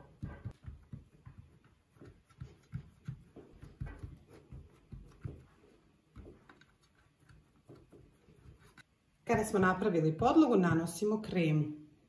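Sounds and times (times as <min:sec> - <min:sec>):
hands patting dough in a tin: 0:00.0 - 0:10.5.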